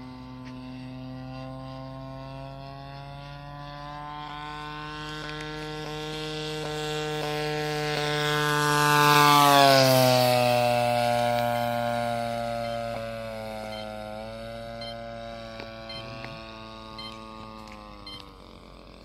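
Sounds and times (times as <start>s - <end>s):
model plane engine passing: 0.0s - 19.0s.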